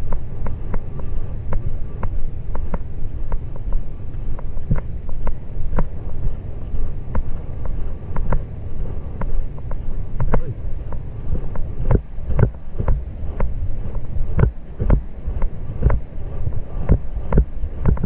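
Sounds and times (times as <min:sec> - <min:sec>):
sharp clicks and knocks: 0:00.0 - 0:08.5, 0:09.1 - 0:18.0
wind rumbling on microphone: 0:00.0 - 0:18.0.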